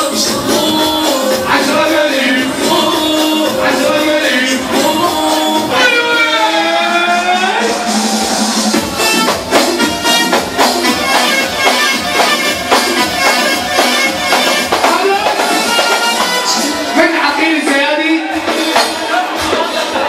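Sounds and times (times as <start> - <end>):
live band playing: 0.0 - 20.0
steady drum beat: 0.0 - 20.0.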